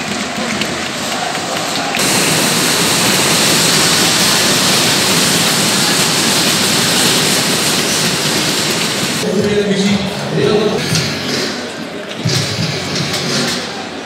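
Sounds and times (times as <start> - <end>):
stadium crowd cheering: 0.0 - 14.0.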